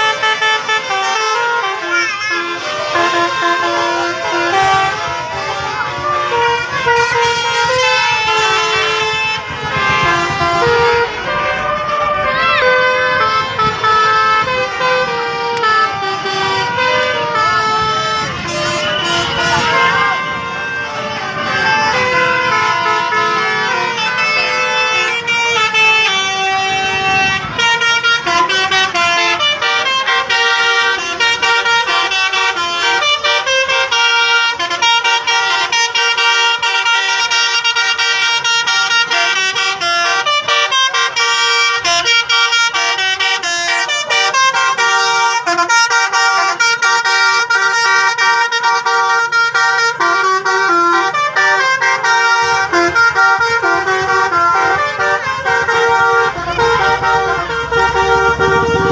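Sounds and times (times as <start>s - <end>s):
musical air horns playing melody: 0.0s - 58.9s.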